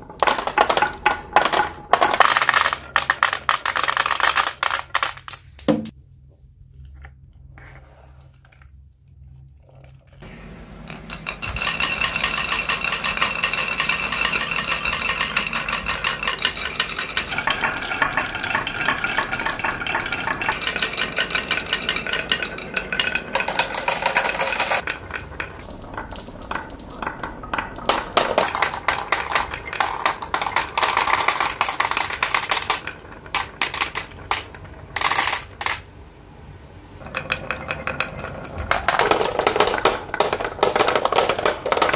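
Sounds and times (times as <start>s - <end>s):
glass marbles clattering on wood: 0.1s - 5.6s, 10.9s - 35.8s, 37.0s - 41.9s.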